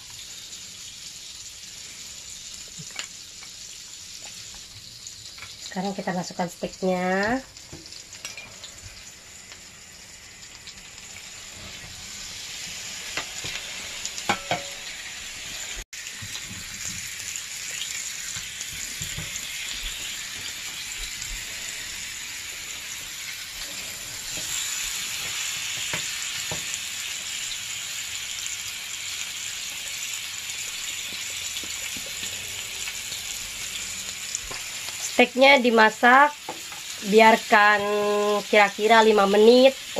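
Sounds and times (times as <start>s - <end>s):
steaks sizzling in a grill pan: 0.0s - 39.9s.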